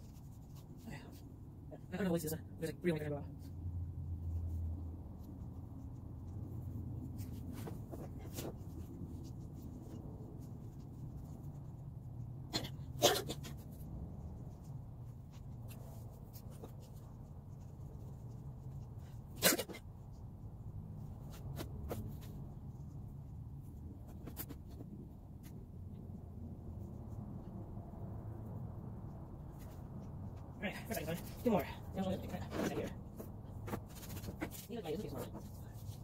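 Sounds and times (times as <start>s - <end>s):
low background rumble: 0.0s - 36.0s.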